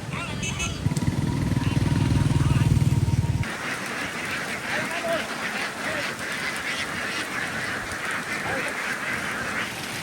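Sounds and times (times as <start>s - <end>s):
flock of ducks quacking: 0.0s - 10.0s.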